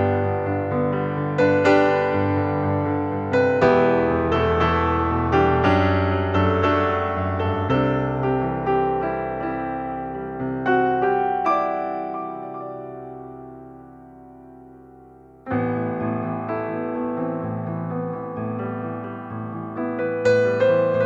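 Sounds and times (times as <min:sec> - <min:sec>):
slow solo piano: 0:00.0 - 0:21.0.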